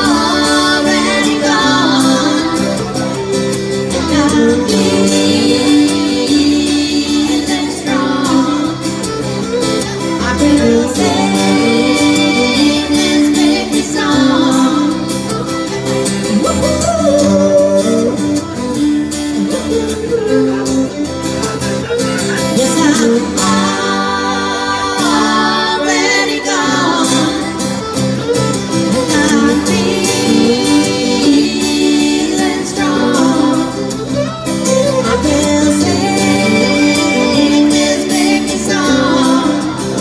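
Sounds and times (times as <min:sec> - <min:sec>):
bowed fiddle: 0:00.0 - 0:40.0
strummed acoustic guitars: 0:00.0 - 0:40.0.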